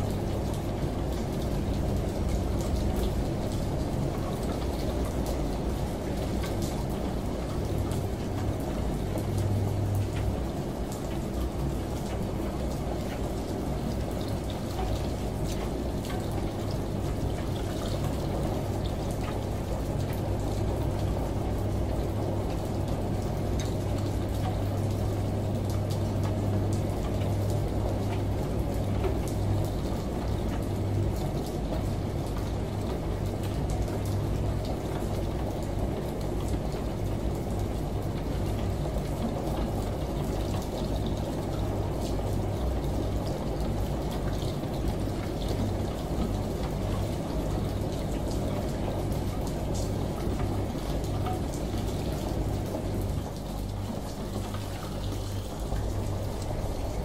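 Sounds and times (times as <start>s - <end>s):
rain: 0.0s - 57.0s
shower water running: 0.0s - 57.0s
washing machine humming: 0.0s - 57.0s
water dripping: 0.2s - 57.0s.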